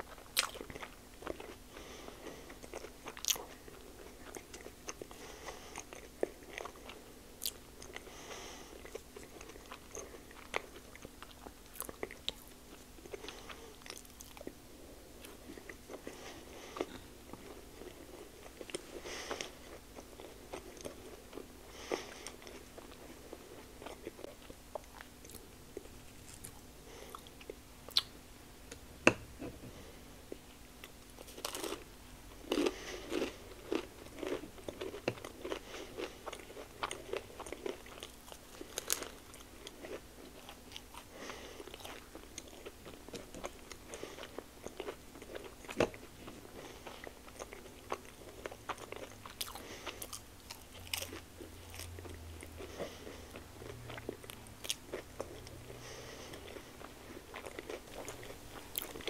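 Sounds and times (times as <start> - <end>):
biting and chewing food: 0.0 - 14.6, 15.2 - 28.1, 28.7 - 59.0.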